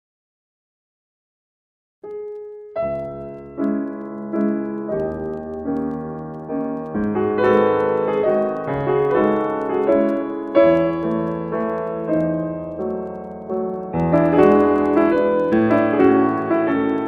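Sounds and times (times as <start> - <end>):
slow piano music: 2.0 - 17.0.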